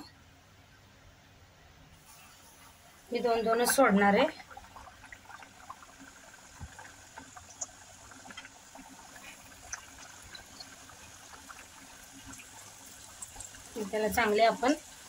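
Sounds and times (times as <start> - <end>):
food deep-frying in oil: 1.9 - 15.0.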